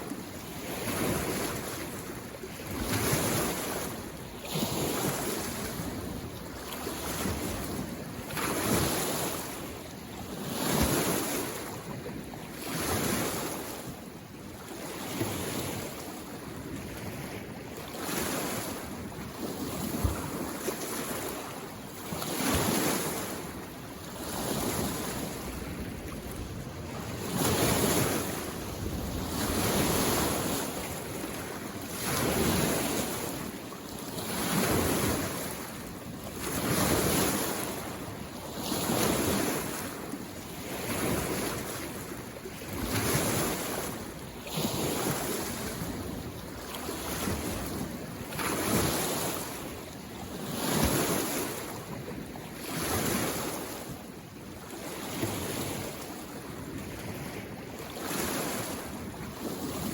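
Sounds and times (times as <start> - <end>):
small waves lapping on shore: 0.0 - 59.9.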